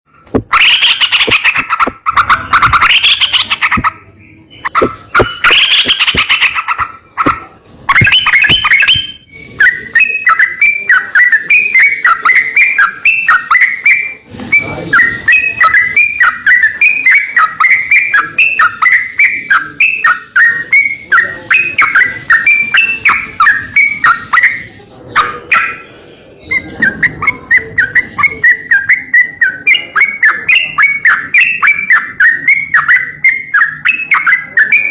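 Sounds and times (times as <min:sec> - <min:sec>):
songbird chattering song: 0:00.1 - 0:34.9.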